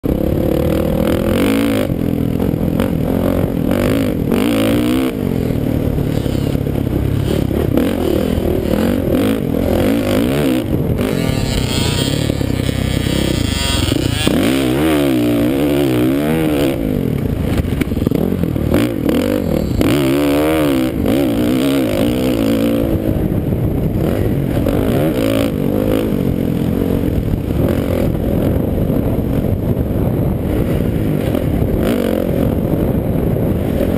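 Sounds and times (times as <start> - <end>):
dirt bike engines revving: 0.0 - 33.9.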